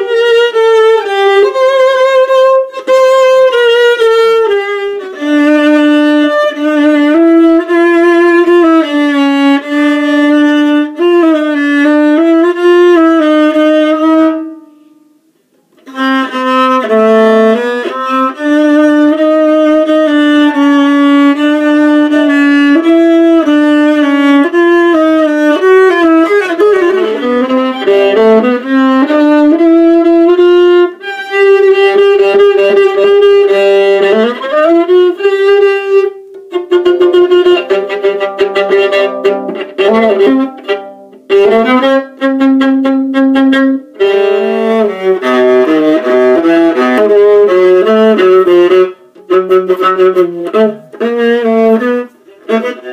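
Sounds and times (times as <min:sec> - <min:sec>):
solo violin melody: 0:00.0 - 0:52.9.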